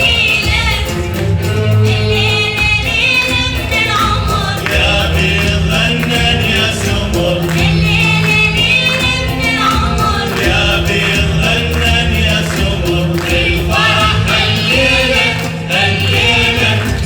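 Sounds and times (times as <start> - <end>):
hand percussion: 0.0 - 17.0
choir singing: 1.5 - 17.0.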